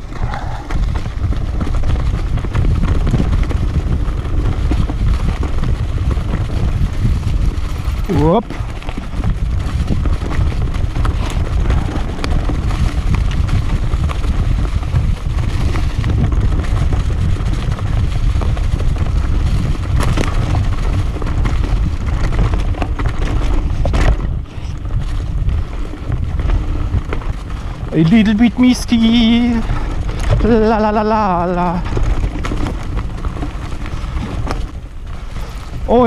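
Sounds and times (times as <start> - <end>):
bike rattling: 0.0 - 36.0
bike tyres rumbling on dirt: 0.0 - 36.0
wind buffeting microphone: 0.0 - 36.0.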